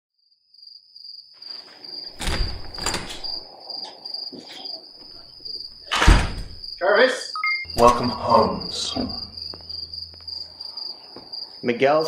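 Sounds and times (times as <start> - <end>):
crickets chirping: 0.3 - 12.0.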